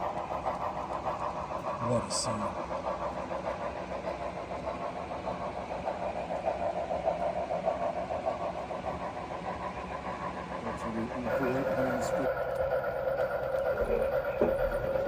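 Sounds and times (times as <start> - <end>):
model train mechanical hum: 0.0 - 15.0.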